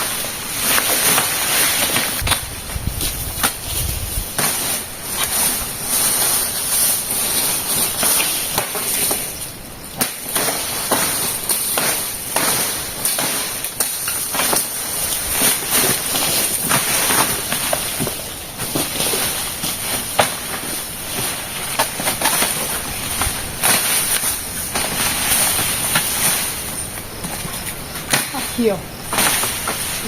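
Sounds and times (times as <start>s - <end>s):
palm fronds cracking and rustling: 0.0s - 30.0s.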